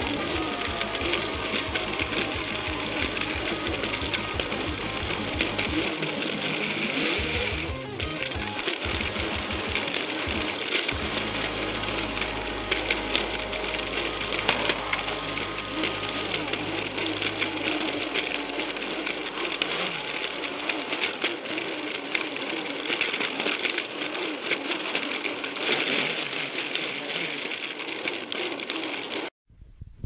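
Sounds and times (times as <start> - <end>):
toy train motor whirring: 0.0 - 29.3.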